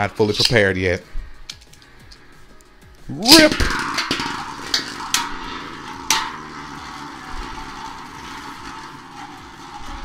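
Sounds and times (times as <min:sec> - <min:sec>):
spinning tops whirring: 0:00.0 - 0:10.0
spinning tops clacking: 0:01.4 - 0:10.0.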